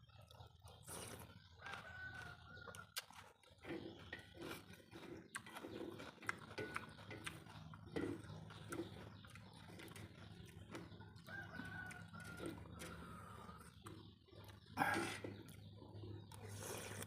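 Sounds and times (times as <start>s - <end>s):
chewing and slurping: 0.0s - 17.0s.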